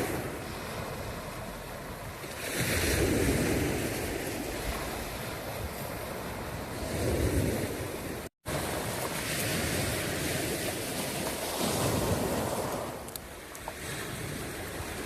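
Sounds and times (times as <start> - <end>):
sea waves washing: 0.0 - 15.0
wind on microphone: 0.0 - 15.0.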